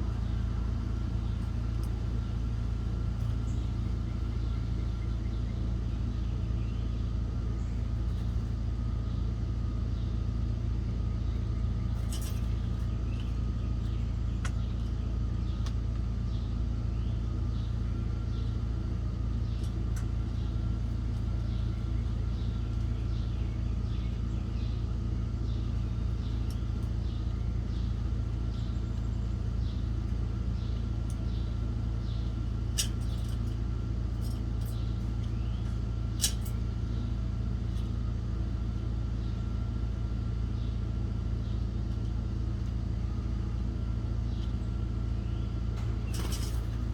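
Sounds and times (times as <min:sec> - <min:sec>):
small birds chirping: 0:00.0 - 0:46.9
steady low rumble: 0:00.0 - 0:46.9.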